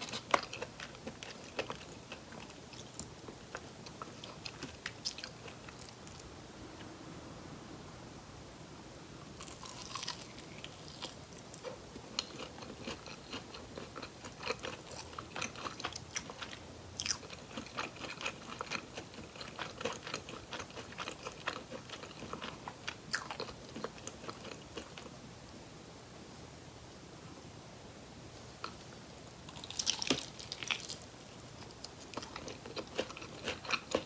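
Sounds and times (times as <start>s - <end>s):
chewing crispy fried chicken: 0.0s - 6.3s, 9.4s - 25.2s, 28.6s - 34.0s.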